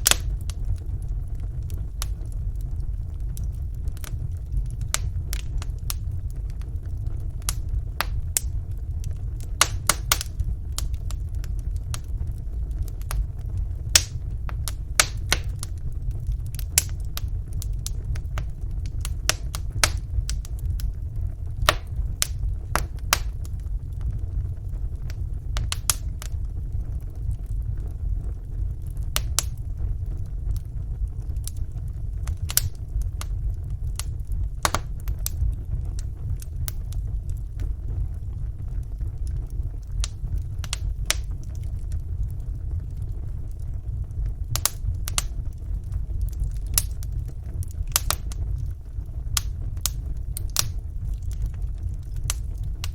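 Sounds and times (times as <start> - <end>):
low rumble of flames: 0.0 - 52.9
wood fire crackling and popping: 0.0 - 52.9.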